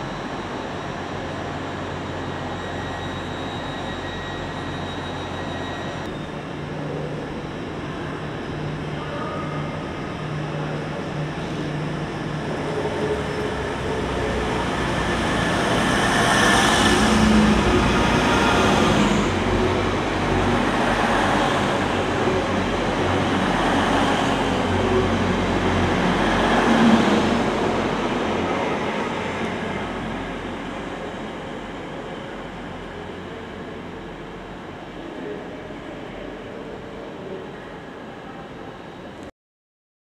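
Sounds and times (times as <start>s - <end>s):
passenger train passing: 0.0s - 39.2s.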